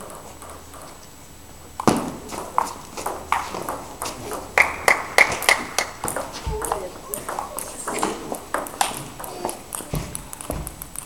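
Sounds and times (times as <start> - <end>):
table tennis ball hits: 0.0 - 1.0, 1.8 - 11.0.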